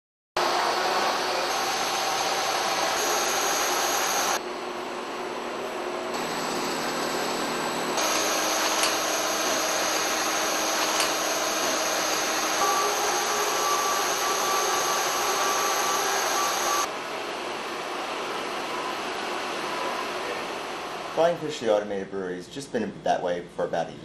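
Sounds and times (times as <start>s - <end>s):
machine drone and hiss: 0.4s - 4.4s, 6.0s - 21.4s.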